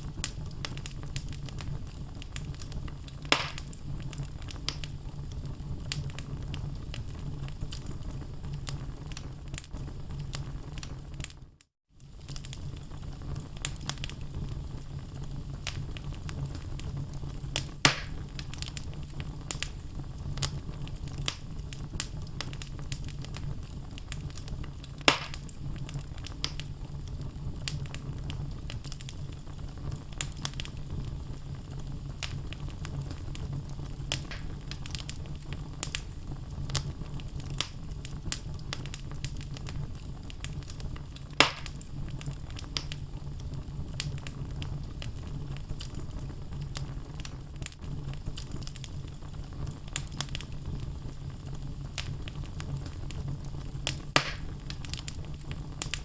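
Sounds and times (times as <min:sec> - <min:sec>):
logs crackling in fireplace: 0:00.0 - 0:56.0
loud fire pops: 0:00.0 - 0:56.0.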